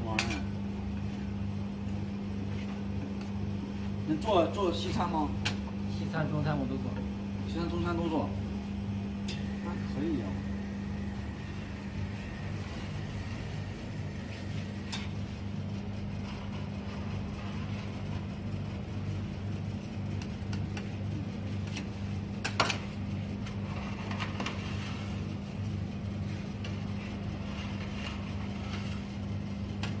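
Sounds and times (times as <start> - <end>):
compressor humming: 0.0 - 30.0.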